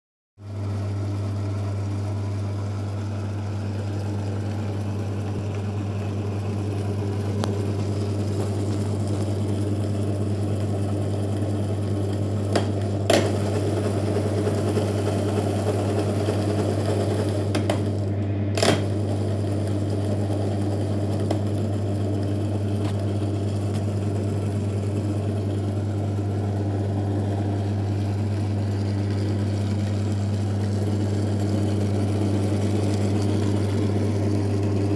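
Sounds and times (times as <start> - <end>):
lathe motor hum with gear whir: 0.5 - 34.9.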